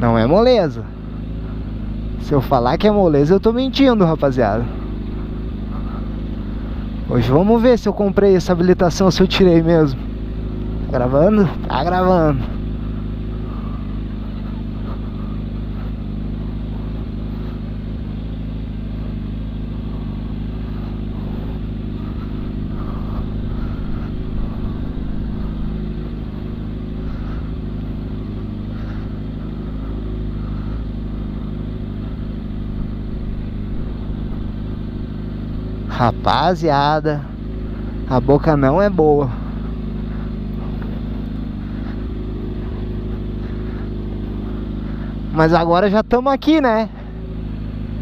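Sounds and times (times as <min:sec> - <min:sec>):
motorcycle engine running steadily: 0:00.0 - 0:48.0.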